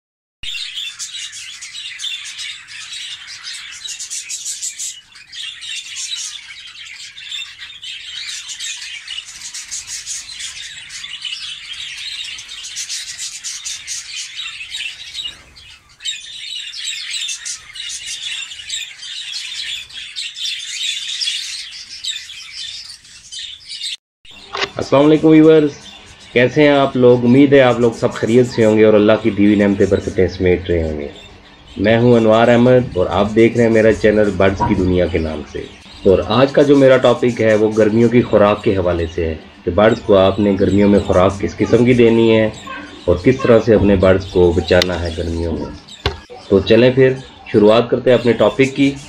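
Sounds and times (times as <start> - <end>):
budgerigars chattering and chirping: 0.4 - 49.0.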